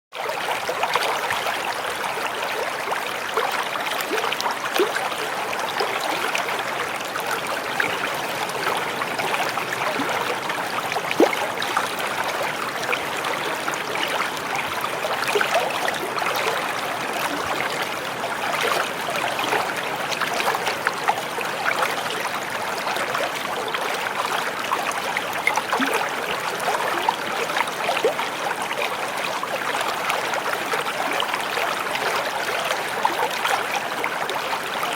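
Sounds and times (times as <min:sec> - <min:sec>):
water running over rocks: 0:00.3 - 0:34.9.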